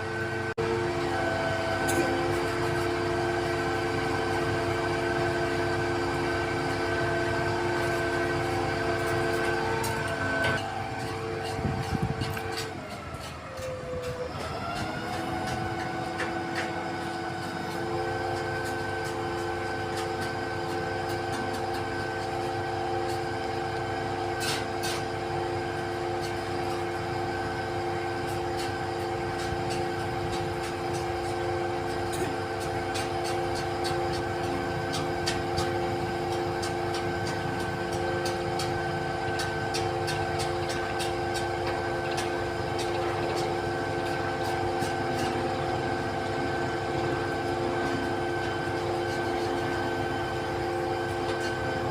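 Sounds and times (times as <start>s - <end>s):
concrete pump engine whine: 0.0s - 51.9s.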